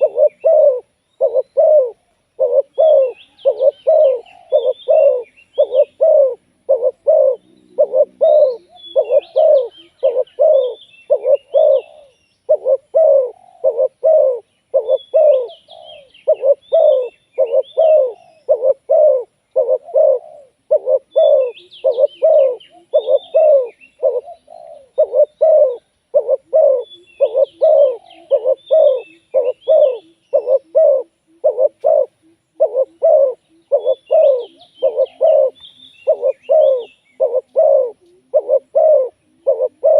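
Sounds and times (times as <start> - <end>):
dove cooing: 0.0 - 39.9
small birds chirping faintly: 0.0 - 39.9.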